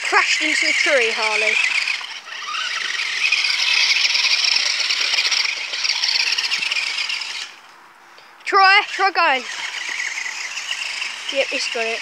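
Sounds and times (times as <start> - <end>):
remote-control car motor whining: 0.0 - 7.7, 8.4 - 12.0.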